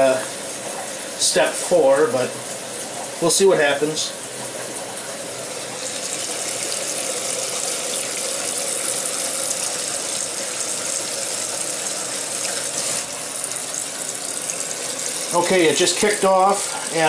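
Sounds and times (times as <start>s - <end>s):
water rushing into washer: 0.0s - 17.0s.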